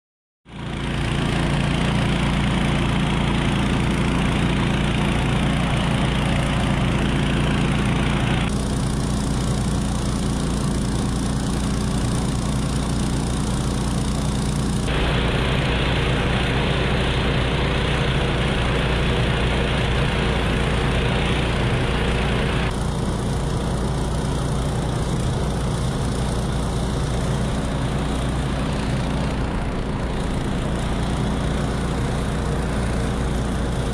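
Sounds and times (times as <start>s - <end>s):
vehicle engine running: 0.5s - 33.9s.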